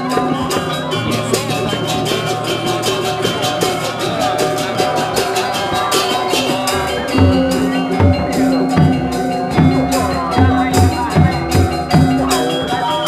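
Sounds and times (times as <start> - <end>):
gamelan metal keys and gongs: 0.0 - 13.0
low drum beats: 0.0 - 13.0.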